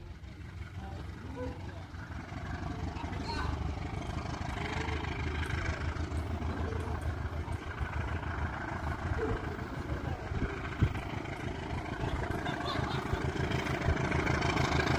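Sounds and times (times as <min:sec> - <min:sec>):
distant diesel train engine rumble: 0:00.0 - 0:14.9.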